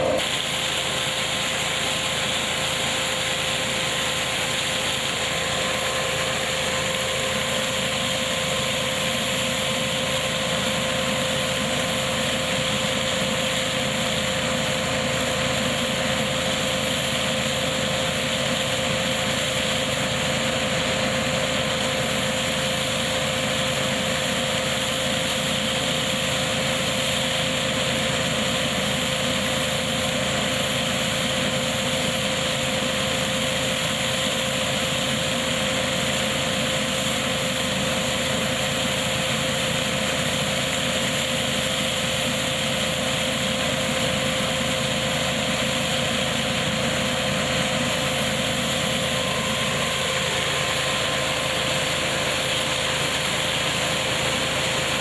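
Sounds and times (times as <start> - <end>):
harvesting machine running: 0.0 - 55.0
tractor engine: 0.0 - 55.0.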